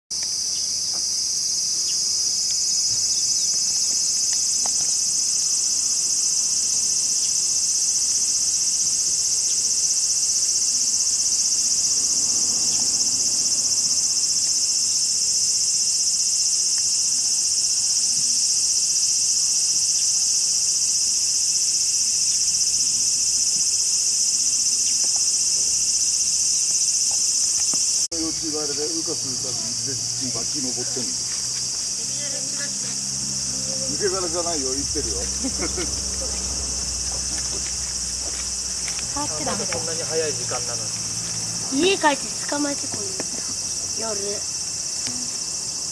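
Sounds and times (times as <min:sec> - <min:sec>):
cicadas buzzing: 0:00.1 - 0:45.9.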